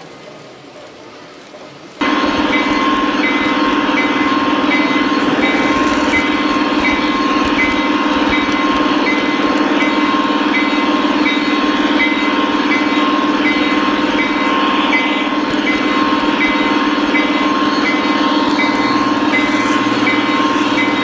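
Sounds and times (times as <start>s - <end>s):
model train motor and wheels: 2.0s - 21.0s.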